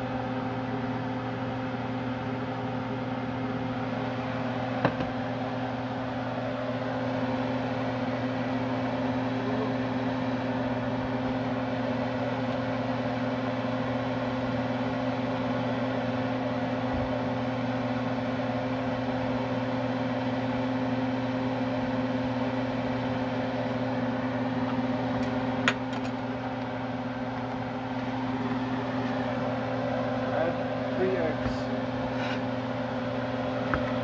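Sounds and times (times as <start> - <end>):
range hood fan humming: 0.0 - 34.0.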